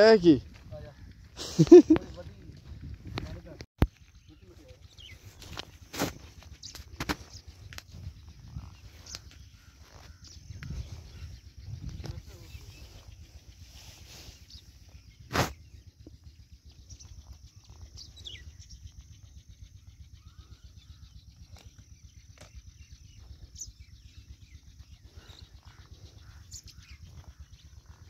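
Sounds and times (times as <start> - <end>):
birds chirping: 0.0 - 28.0
steady low rumble: 0.4 - 28.0.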